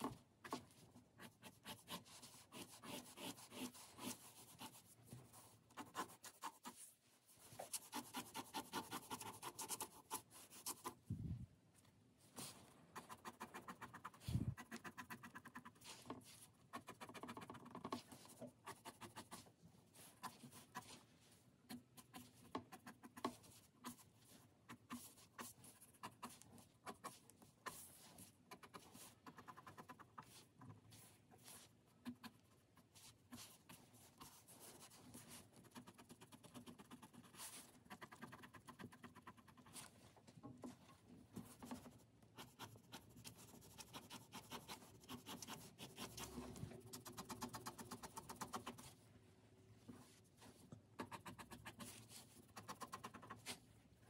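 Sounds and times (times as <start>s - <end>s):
pen scratching on paper: 0.0s - 11.0s, 12.4s - 39.9s, 41.4s - 49.0s, 51.0s - 53.6s.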